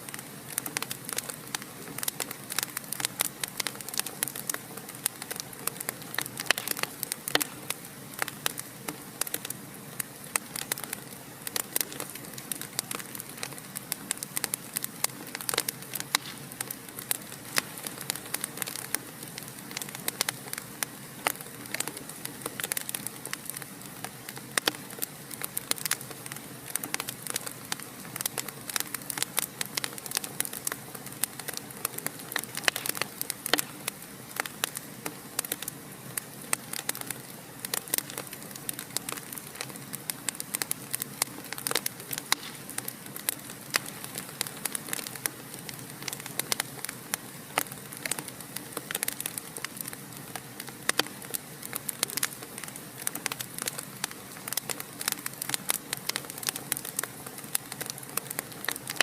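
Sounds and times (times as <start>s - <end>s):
soft hiss of flame: 0.0s - 59.0s
wood fire crackling and popping: 0.0s - 59.0s.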